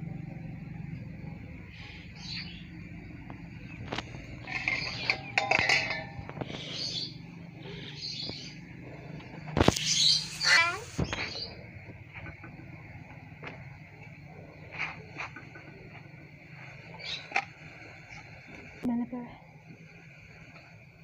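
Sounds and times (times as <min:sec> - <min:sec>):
low steady hum: 0:00.0 - 0:21.0
birds chirping: 0:00.4 - 0:18.8.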